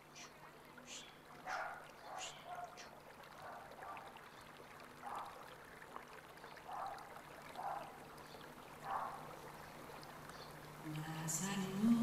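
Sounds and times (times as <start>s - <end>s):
faint running water: 0.0s - 12.0s.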